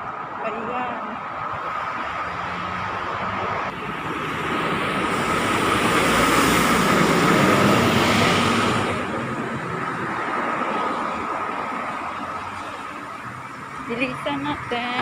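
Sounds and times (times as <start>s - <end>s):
vehicle passing close by: 1.4s - 13.8s.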